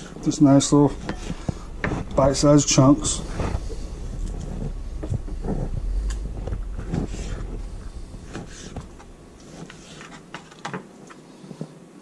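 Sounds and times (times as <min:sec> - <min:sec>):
low rumble on microphone: 0:00.0 - 0:10.4.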